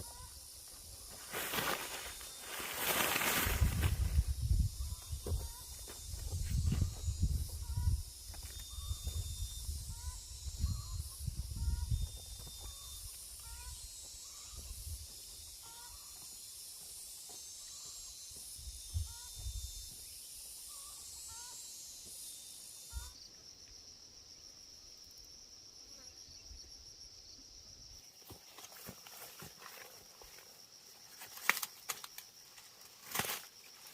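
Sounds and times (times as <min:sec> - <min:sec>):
high insect whine: 0:00.0 - 0:33.9
insects buzzing: 0:00.0 - 0:33.9.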